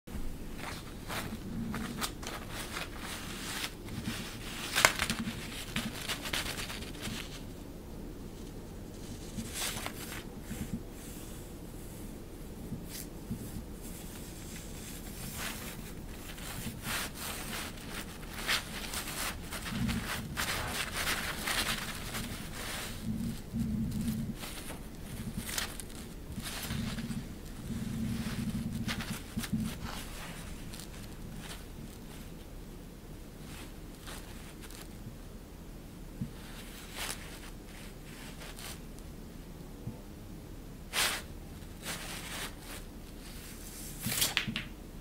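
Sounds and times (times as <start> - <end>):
thin fabric rustling: 0.1 - 32.6, 33.2 - 35.0, 36.2 - 39.0, 40.9 - 44.4.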